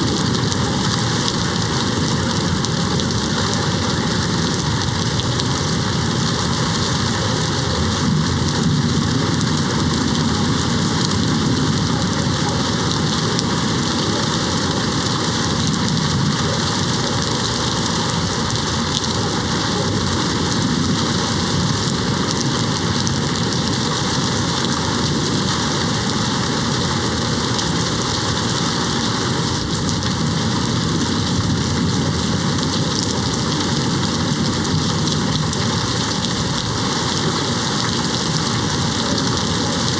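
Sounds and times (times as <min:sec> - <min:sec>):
rain against a window: 0:00.0 - 0:39.9.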